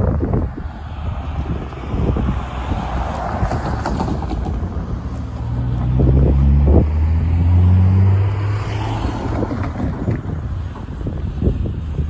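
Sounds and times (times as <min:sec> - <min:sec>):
vehicle engine hum passing: 0:00.0 - 0:12.0
wind buffeting microphone: 0:00.0 - 0:12.0.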